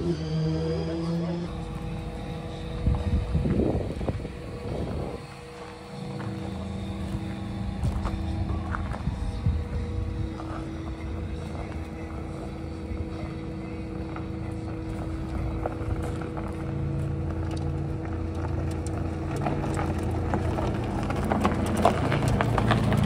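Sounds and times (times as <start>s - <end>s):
electric car low hum: 0.0s - 23.0s
tyres crunching on gravel: 1.5s - 23.0s.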